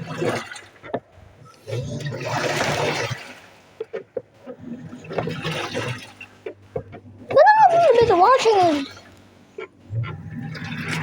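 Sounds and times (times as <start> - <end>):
water sloshing in washing machine: 0.0 - 11.0.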